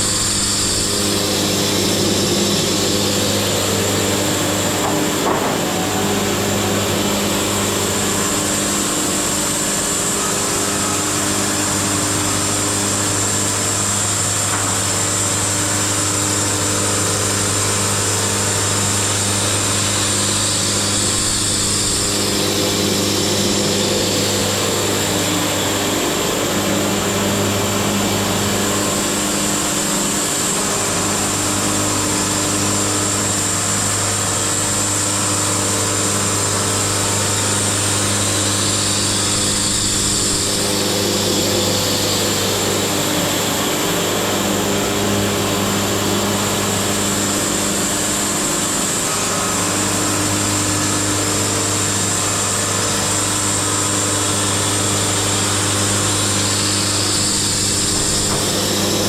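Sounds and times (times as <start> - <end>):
band sawmill motor hum: 0.0 - 59.0.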